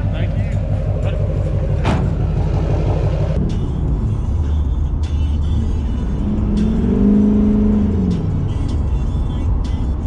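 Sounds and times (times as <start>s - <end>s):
rising engine tone: 0.0s - 8.7s
diesel engine drone: 0.0s - 10.0s.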